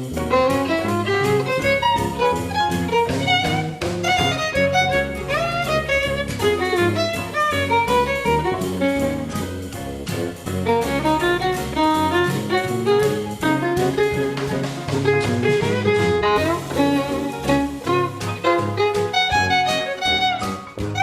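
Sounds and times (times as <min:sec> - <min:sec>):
upbeat jazzy instrumental music: 0:00.0 - 0:21.0.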